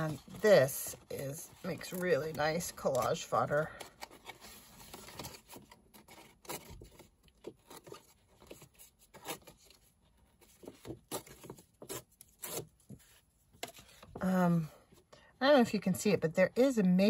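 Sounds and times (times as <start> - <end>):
paper rustling taps and scrapes: 0.0 - 14.3.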